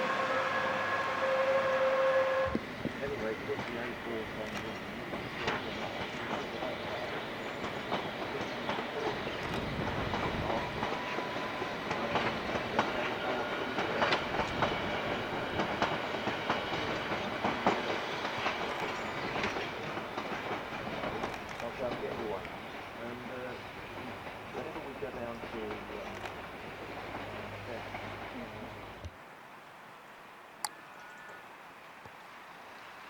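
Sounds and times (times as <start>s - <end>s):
train rumbling on track: 0.0s - 29.2s
wheels clicking over rail joints: 2.5s - 29.2s.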